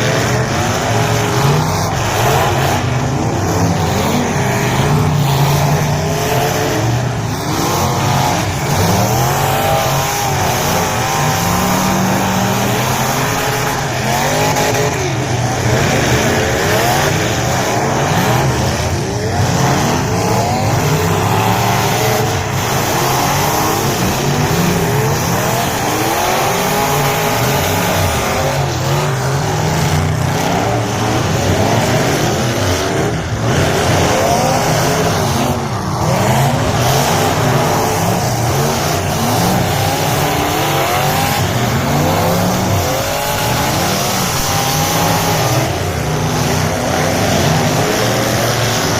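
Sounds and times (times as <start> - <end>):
race car engines accelerating: 0.0 - 48.9.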